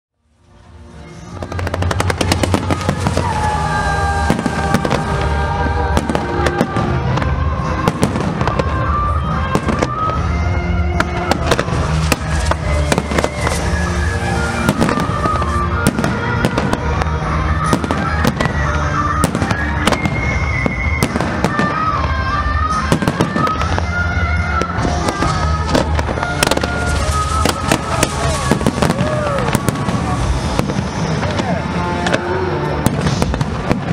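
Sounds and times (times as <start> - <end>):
fireworks bangs and crackles: 0.9 - 33.9.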